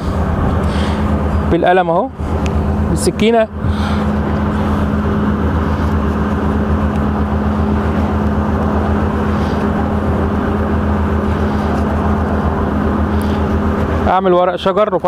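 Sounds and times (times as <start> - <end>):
large engine droning: 0.0 - 15.0
steady hum: 0.0 - 15.0.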